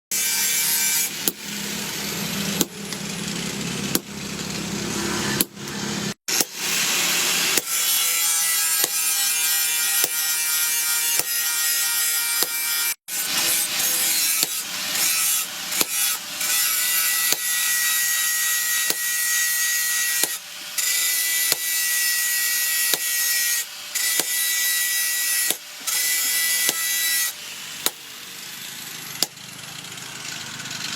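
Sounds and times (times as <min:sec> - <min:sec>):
hissing grind of steel cutting: 0:00.1 - 0:30.9.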